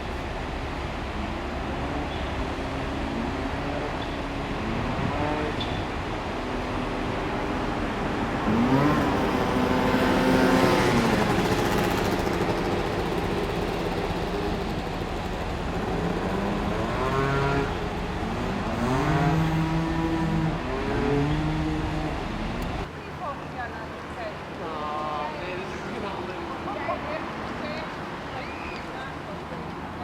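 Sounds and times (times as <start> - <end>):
vehicle engines passing: 0.0 - 30.0.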